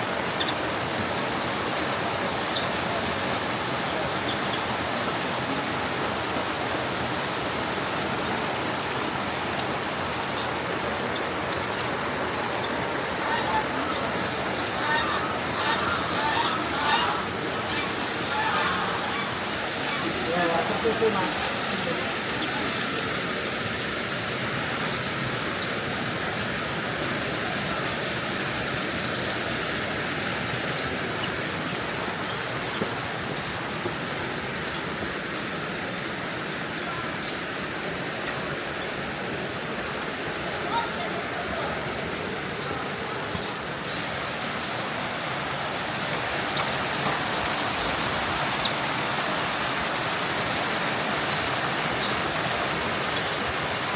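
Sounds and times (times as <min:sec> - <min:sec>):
faint water drips: 0:00.0 - 0:53.9
flowing water rushing: 0:00.0 - 0:53.9.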